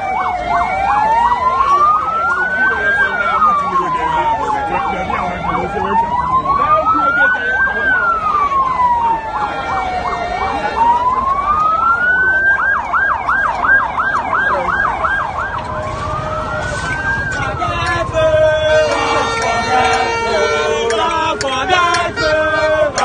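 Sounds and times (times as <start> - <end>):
siren fast yelp: 0.0 - 21.0
siren wail: 0.0 - 23.0.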